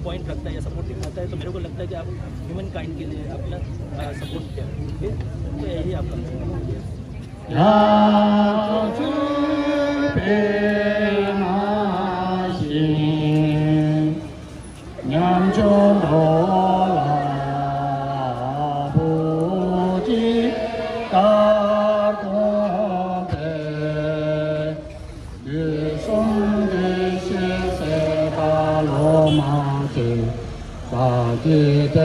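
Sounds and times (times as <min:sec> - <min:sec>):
voices chanting prayer: 0:05.7 - 0:32.0.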